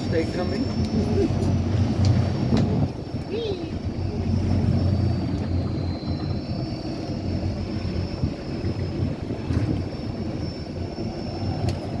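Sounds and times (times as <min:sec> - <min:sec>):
boat motor running: 0:00.0 - 0:12.0
wind on microphone: 0:00.0 - 0:12.0.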